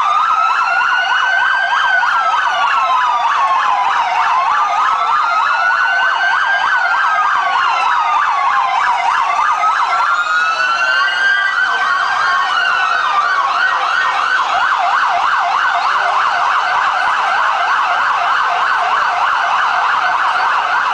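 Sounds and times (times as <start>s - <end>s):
police sirens wailing: 0.0s - 20.9s
police sirens yelping: 0.0s - 20.9s.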